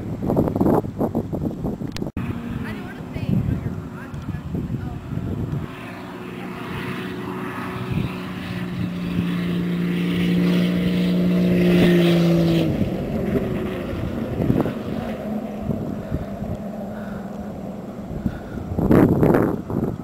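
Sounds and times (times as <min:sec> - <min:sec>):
car engine under throttle: 0:00.0 - 0:20.0
road and wind noise: 0:00.0 - 0:20.0.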